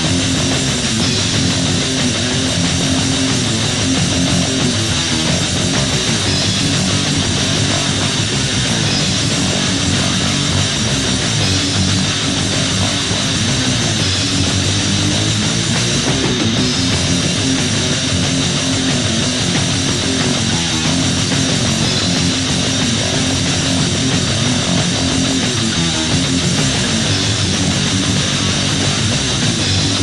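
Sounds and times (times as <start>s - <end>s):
heavy metal band playing: 0.0s - 30.0s.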